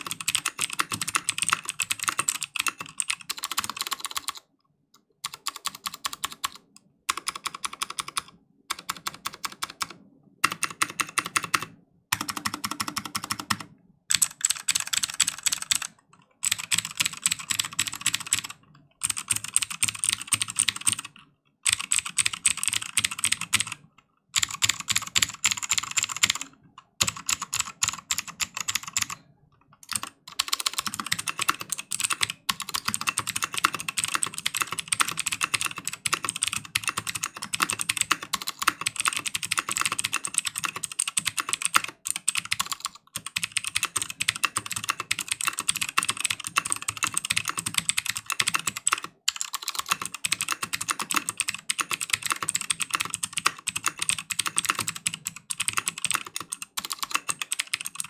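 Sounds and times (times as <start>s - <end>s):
fast clicky keyboard typing: 0.0s - 58.0s.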